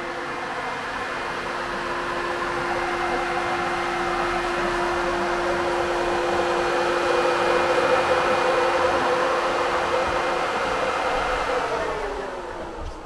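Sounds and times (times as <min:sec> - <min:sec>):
radiator cooling fan whirring: 0:00.0 - 0:13.0.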